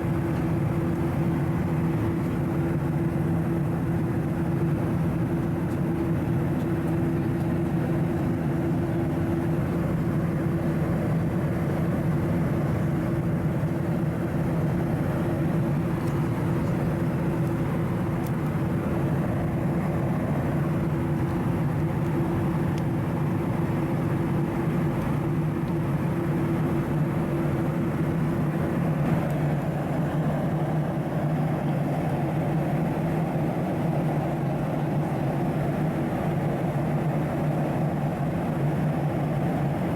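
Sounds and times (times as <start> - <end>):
airplane engines droning: 0.0 - 39.9
constant low hum: 0.0 - 39.9.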